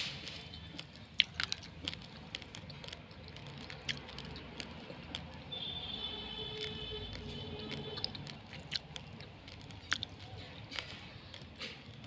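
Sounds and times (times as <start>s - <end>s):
chewing crunchy rice grains: 0.0s - 12.0s.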